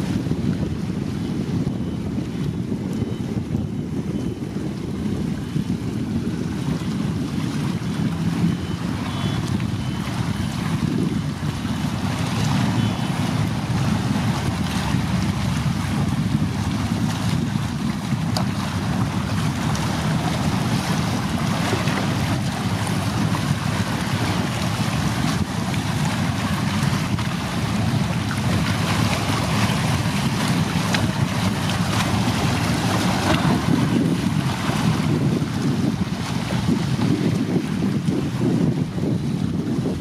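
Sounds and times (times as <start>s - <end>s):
choppy sea water: 0.0s - 40.0s
wind across microphone: 0.0s - 40.0s.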